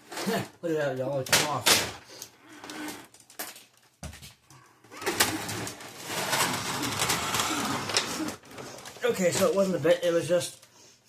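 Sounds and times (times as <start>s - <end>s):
plastic parts clattering and rattling: 0.0s - 10.7s.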